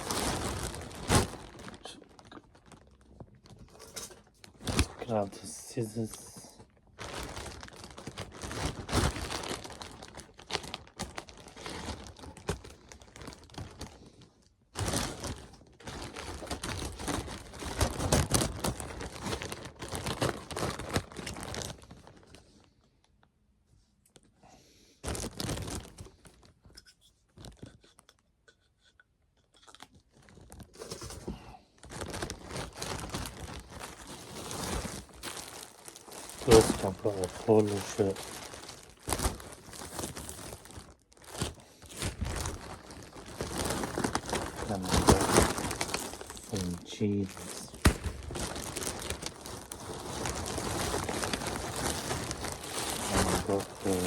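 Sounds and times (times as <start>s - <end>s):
packaging tearing and crinkling: 0.0s - 6.1s, 7.0s - 14.0s, 14.8s - 22.3s, 25.0s - 26.5s, 29.8s - 54.0s.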